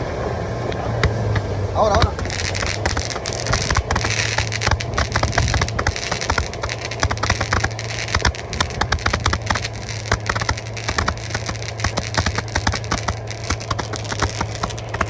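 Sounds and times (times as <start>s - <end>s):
fireworks crackling: 0.0s - 15.0s
steady low hum: 0.0s - 15.0s.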